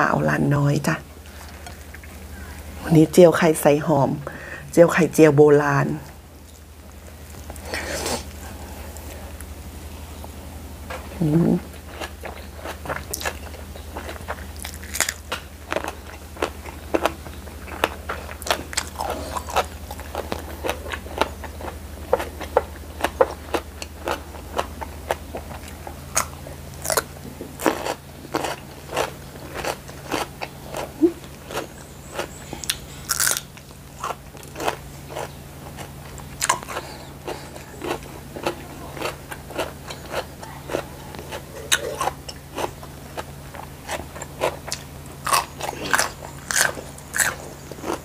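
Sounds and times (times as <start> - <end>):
steady low hum: 0.0 - 48.0
crunching and chewing eggplant: 6.4 - 48.0.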